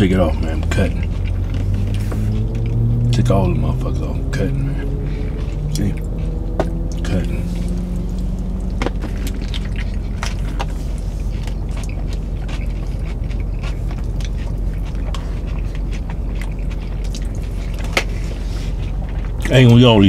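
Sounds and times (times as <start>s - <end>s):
person chewing: 0.0s - 19.5s
low car cabin hum: 0.0s - 20.0s.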